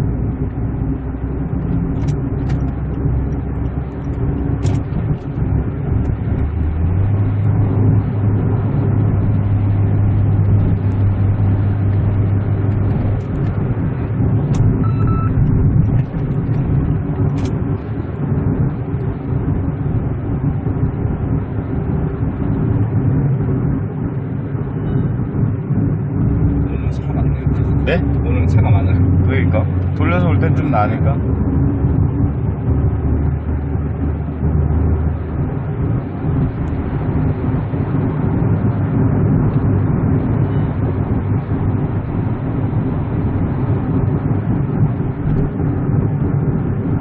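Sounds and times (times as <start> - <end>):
car engine and road noise: 0.0 - 47.0
low hum: 0.0 - 47.0.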